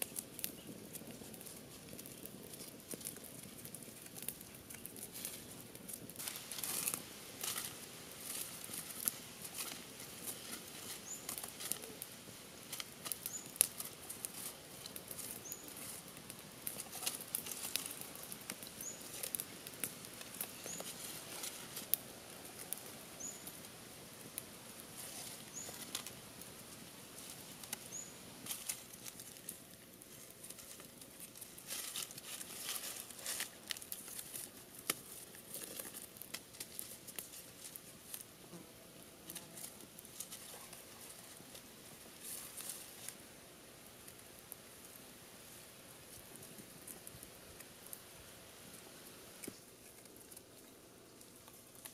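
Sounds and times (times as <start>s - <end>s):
rope and bamboo rustling: 0.0s - 38.5s, 39.2s - 43.3s
leaf litter crackling underfoot: 0.0s - 51.9s.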